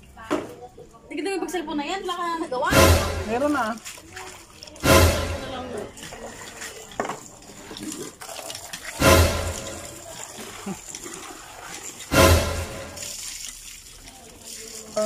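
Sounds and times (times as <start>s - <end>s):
water pouring into plastic basin: 2.7s - 15.0s.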